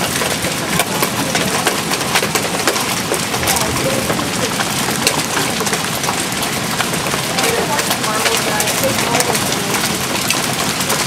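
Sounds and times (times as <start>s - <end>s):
hailstones ticking: 0.0s - 11.0s
rain hissing: 0.0s - 11.0s.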